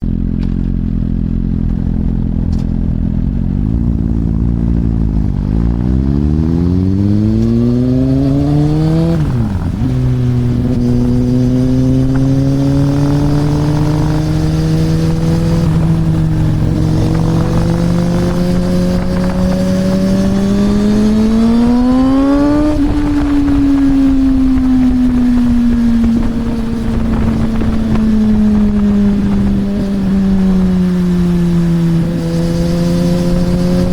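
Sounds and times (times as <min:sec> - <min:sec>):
motorcycle accelerating: 0:00.0 - 0:33.9.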